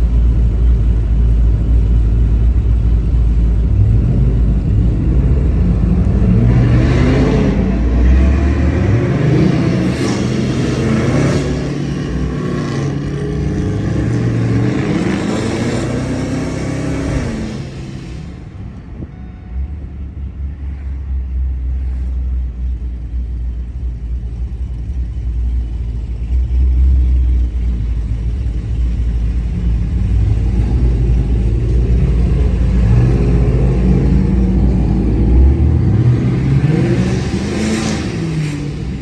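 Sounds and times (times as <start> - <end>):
car exhaust rumbling and revving: 0.0 - 39.0.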